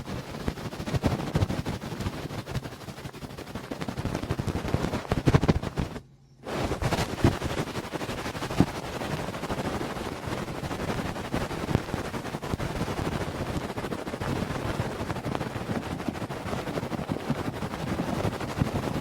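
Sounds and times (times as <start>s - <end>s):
wet crackling and clicking at microphone: 0.0s - 6.0s, 6.6s - 19.0s.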